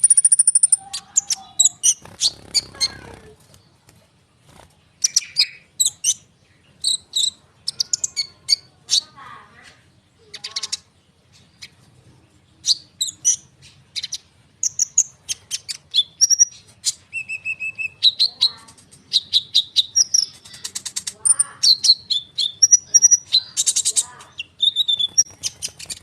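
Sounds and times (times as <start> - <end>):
songbird chirping and trilling: 0.0 - 26.0.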